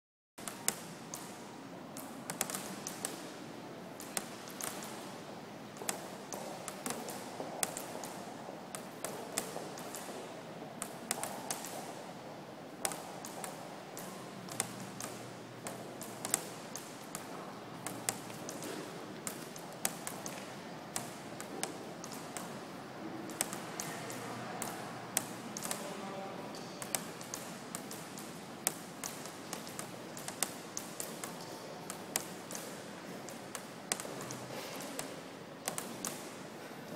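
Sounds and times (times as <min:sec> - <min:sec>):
room ambience: 0:00.4 - 0:36.9.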